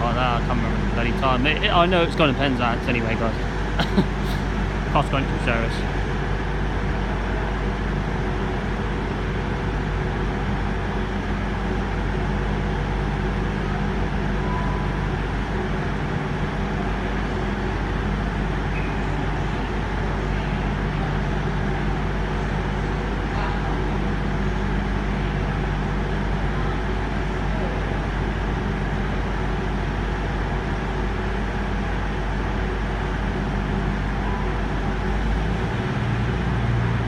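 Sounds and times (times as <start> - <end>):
diesel train engines idling: 0.0 - 37.0.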